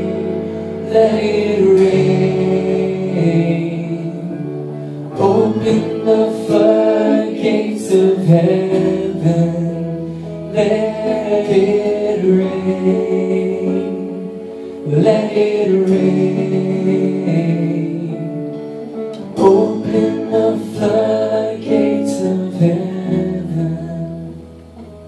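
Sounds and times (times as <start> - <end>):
person singing: 0.0 - 25.0
worship band playing: 0.0 - 25.0.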